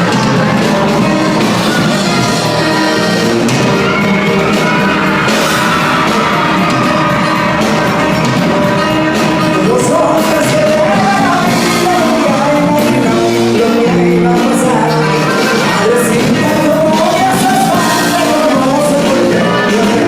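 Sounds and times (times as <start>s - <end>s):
live band music: 0.0s - 20.0s
person singing: 0.0s - 20.0s.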